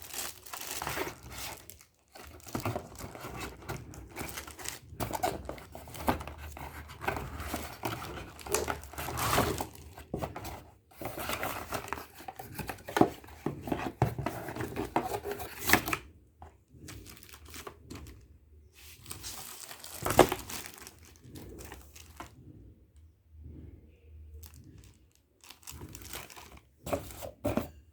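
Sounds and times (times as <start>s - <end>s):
packaging crinkling and crackling: 0.0s - 16.1s, 16.8s - 22.4s, 24.4s - 27.8s.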